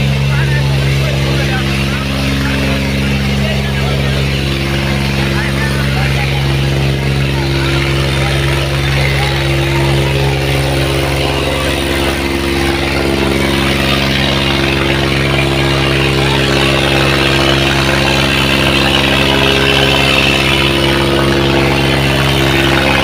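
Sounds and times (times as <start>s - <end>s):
large crowd noise: 0.0s - 23.0s
tractor diesel engine running: 0.0s - 23.0s.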